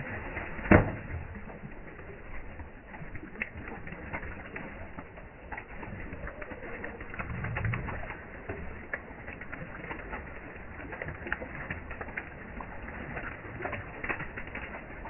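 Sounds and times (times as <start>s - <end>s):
small fish flapping: 0.0s - 15.0s
water pouring from basket: 0.0s - 15.0s
water splashing: 0.0s - 15.0s.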